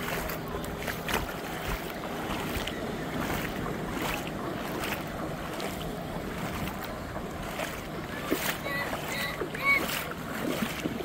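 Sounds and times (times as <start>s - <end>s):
surf washing: 0.0s - 11.0s
wind buffeting microphone: 0.0s - 11.0s.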